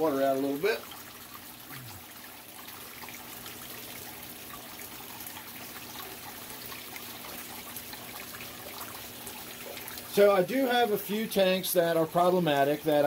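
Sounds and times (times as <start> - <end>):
aquarium waterfall splashing: 0.0 - 13.0
faint steady hum: 0.0 - 13.0.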